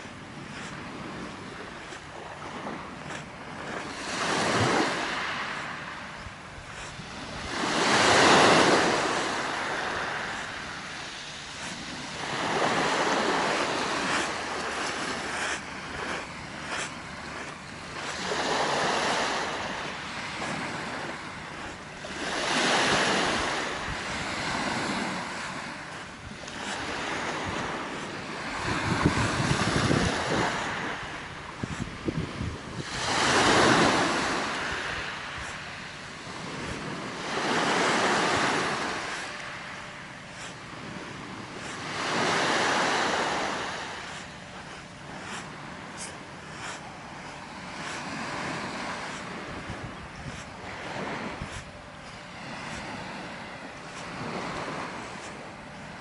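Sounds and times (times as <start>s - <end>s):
waves washing up pebbly shore: 0.0s - 56.0s.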